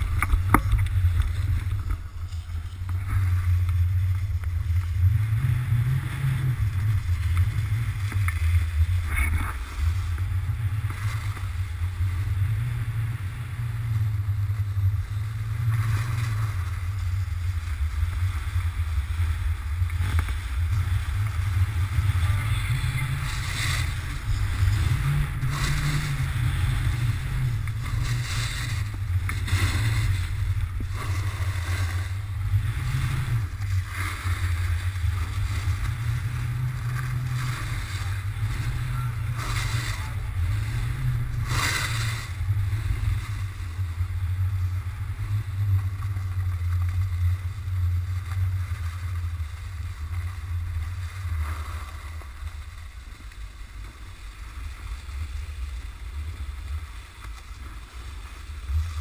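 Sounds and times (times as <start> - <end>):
snowboard scraping on snow: 0.0 - 59.0
wind rumbling on microphone: 0.0 - 59.0.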